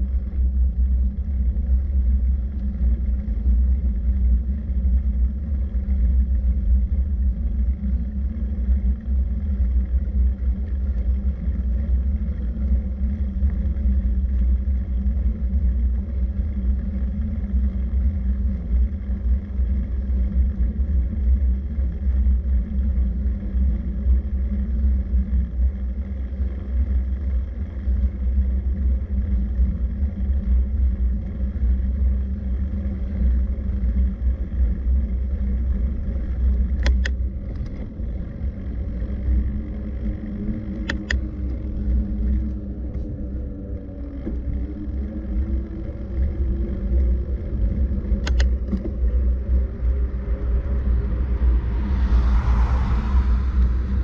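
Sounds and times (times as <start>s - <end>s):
faint constant hum: 0.0s - 54.0s
low rumble of travel noise: 0.0s - 54.0s.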